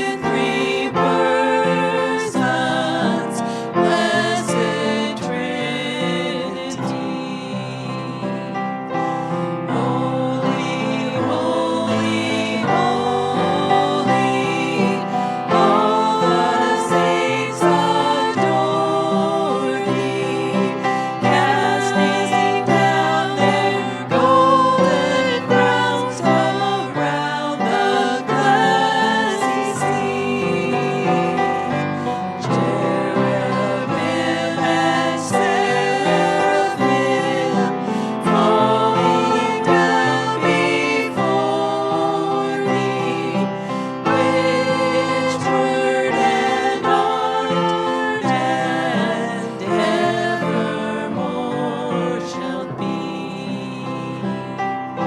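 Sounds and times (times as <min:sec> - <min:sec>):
voices singing worship song: 0:00.0 - 0:55.0
instrumental accompaniment: 0:07.1 - 0:51.7.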